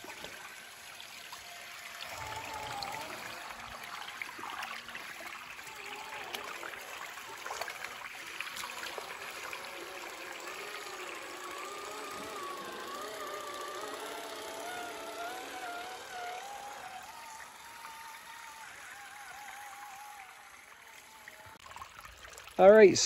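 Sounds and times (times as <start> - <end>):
toy car electric motor whine: 0.0 - 21.6
stream running: 0.0 - 23.0.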